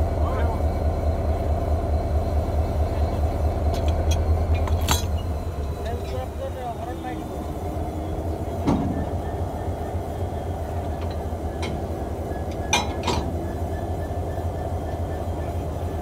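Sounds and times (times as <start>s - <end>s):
locomotive rumbling: 0.0s - 16.0s.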